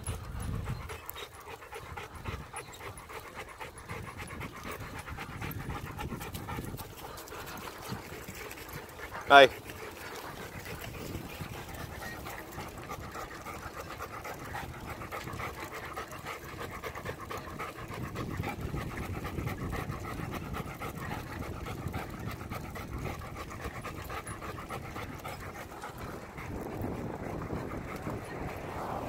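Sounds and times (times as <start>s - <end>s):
dog panting hard: 0.0s - 29.0s.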